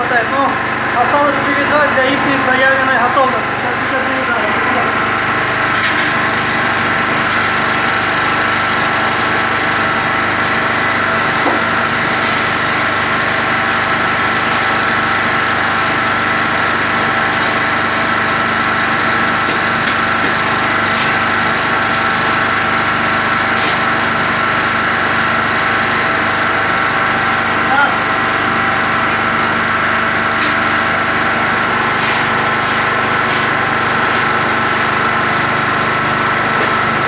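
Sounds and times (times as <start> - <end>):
concrete mixer humming: 0.0 - 37.0.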